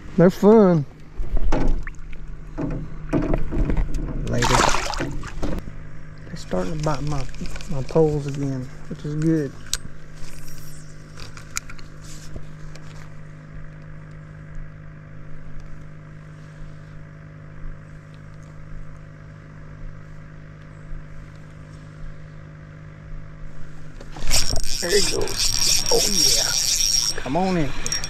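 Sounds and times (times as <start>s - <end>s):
small motor humming: 4.9s - 28.0s.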